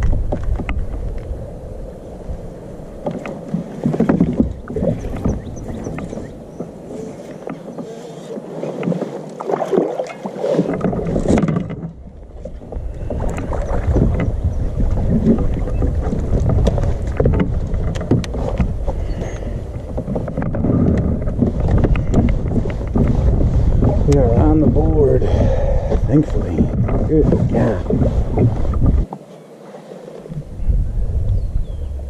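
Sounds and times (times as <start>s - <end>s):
wind rumble on microphone: 0.0s - 8.0s, 9.6s - 29.2s, 30.2s - 32.0s
water lapping at a hull: 0.0s - 32.0s.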